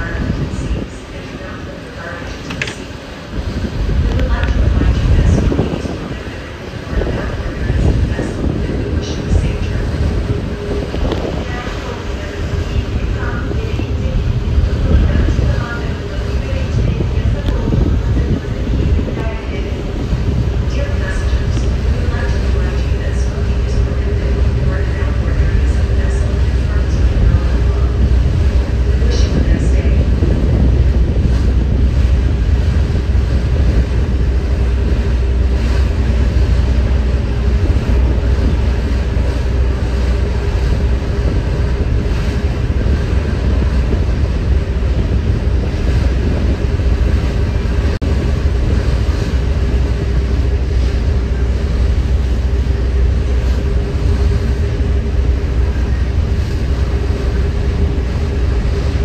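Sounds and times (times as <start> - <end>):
ferry engine rumble: 0.0 - 59.0
water rushing past hull: 0.0 - 59.0
wind buffeting microphone: 0.0 - 59.0.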